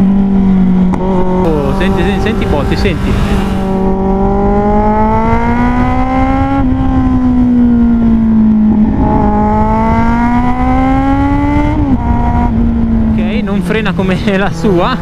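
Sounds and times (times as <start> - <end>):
motorcycle engine revving: 0.0 - 15.0
wind and road noise: 0.0 - 15.0.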